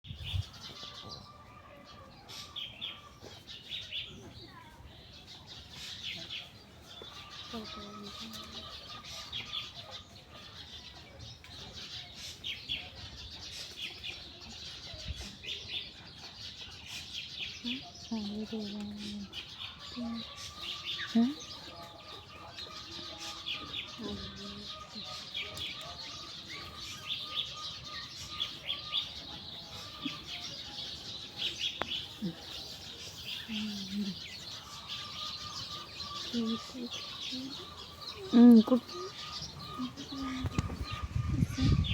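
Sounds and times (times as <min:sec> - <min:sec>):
flock of small birds chirping: 0:00.0 - 0:41.9.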